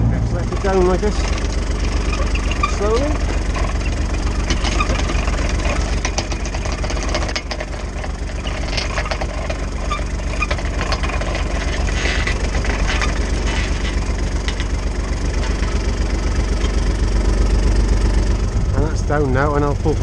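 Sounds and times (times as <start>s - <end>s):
trailer clicks and rattles: 0.0s - 20.0s
utility vehicle engine running: 0.0s - 20.0s.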